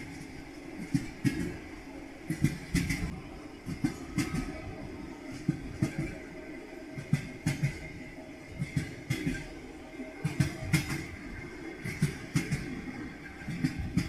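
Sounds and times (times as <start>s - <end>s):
train wheels clacking over rail joints: 0.8s - 4.7s, 5.3s - 9.6s, 10.2s - 14.0s.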